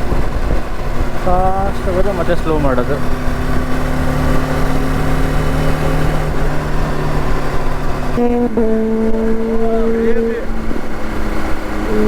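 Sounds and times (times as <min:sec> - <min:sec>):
motorcycle engine running: 0:00.0 - 0:12.0
wind and road rush: 0:00.0 - 0:12.0.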